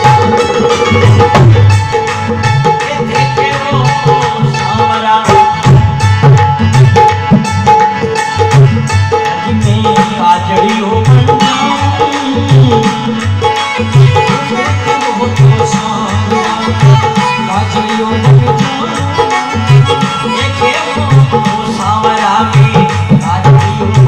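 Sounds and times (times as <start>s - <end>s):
dholak drum rhythm: 0.0s - 24.0s
sustained harmonium notes: 0.0s - 24.0s.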